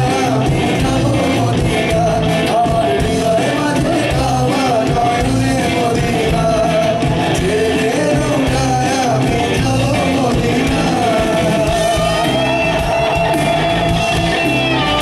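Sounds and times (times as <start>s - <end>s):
live folk-rock band: 0.0s - 15.0s.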